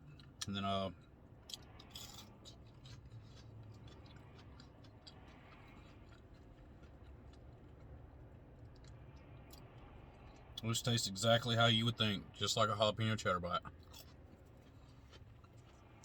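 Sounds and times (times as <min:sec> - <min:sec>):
chewing with crackles: 0:00.0 - 0:10.7, 0:13.6 - 0:16.0
low steady hum: 0:00.0 - 0:16.0.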